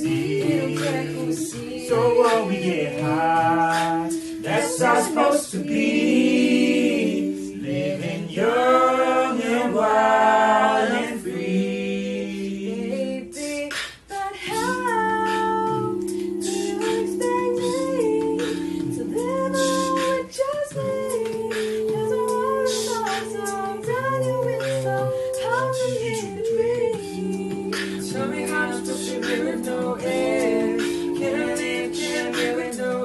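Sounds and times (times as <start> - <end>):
a cappella group singing: 0.0 - 33.0.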